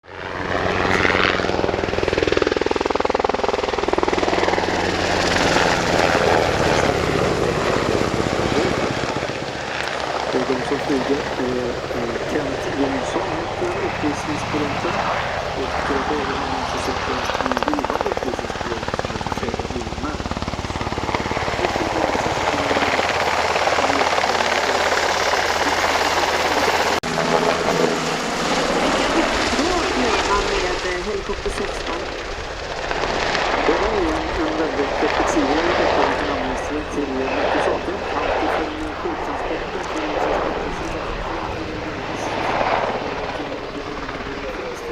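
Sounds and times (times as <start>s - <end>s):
helicopter rotor beating: 0.0s - 44.9s
helicopter turbine engines: 0.0s - 44.9s.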